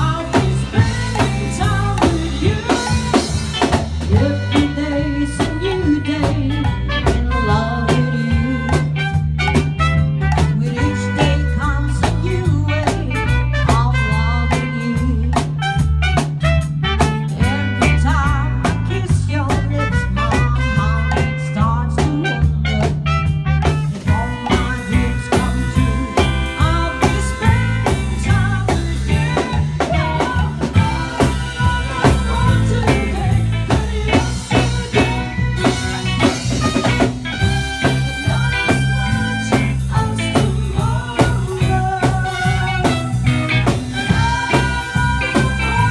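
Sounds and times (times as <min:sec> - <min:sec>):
live band playing upbeat song: 0:00.0 - 0:45.9.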